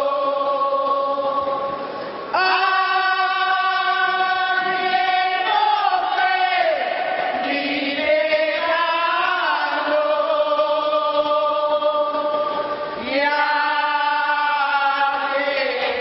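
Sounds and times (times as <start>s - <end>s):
group singing a slow hymn: 0.0s - 16.0s.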